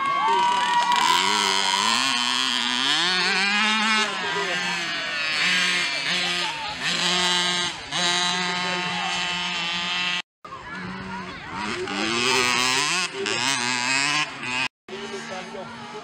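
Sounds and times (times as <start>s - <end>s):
motocross bike engine buzzing: 0.0s - 16.0s.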